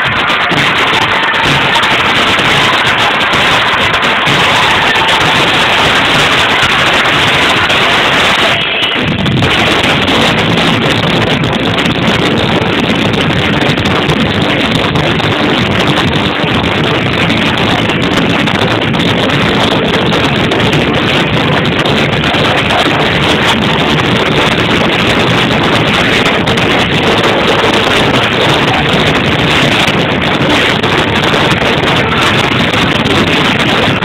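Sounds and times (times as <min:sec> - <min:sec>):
loud music over club sound system: 0:00.0 - 0:34.0.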